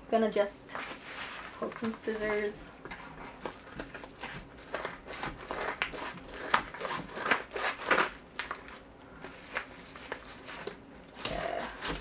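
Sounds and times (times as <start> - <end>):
paper crinkling: 0.7 - 12.0.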